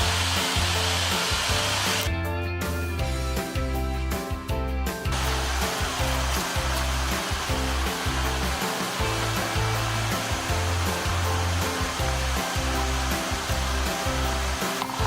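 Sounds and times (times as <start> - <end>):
background music with bass line: 0.0 - 15.0.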